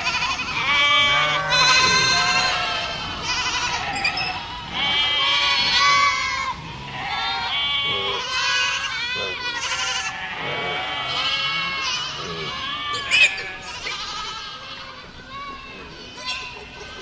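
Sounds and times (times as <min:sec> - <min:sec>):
goats bleating: 0:00.0 - 0:17.0.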